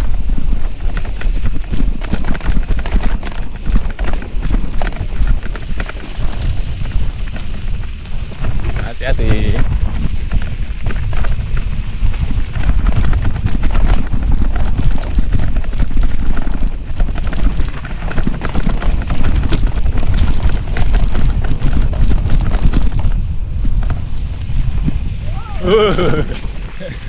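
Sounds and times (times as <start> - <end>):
bike rattling over rough trail: 0.0 - 27.0
wind rumble on microphone: 0.0 - 27.0.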